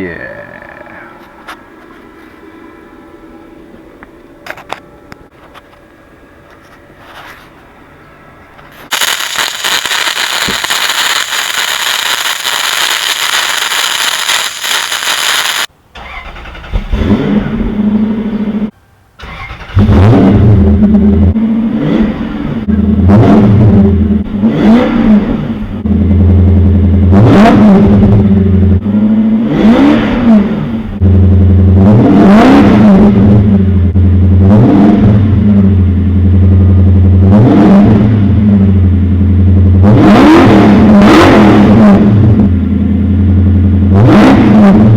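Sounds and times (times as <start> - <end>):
car engine starting and revving: 8.9 - 44.9.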